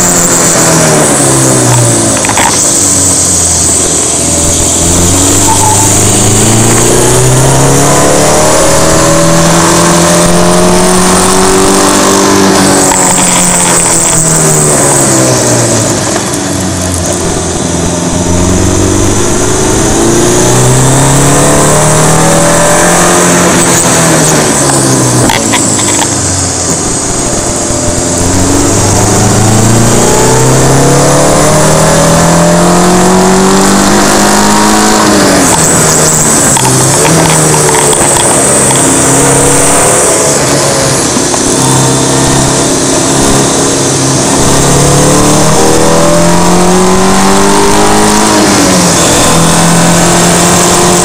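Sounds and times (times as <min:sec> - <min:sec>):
car engine running hard: 0:00.0 - 0:51.0
wind and road noise: 0:00.0 - 0:51.0.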